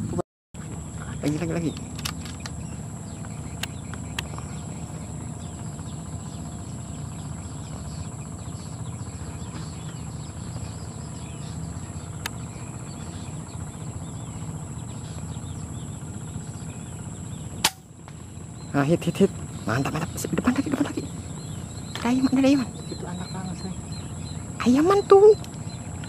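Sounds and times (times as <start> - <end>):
low steady rumble: 0.0 - 26.0
small birds chirping: 0.0 - 26.0
insects trilling: 0.6 - 26.0.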